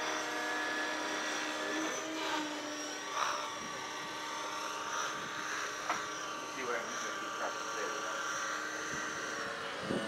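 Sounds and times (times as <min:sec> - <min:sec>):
model helicopter motor whine: 0:00.0 - 0:10.0
rotor blades swishing: 0:00.0 - 0:10.0.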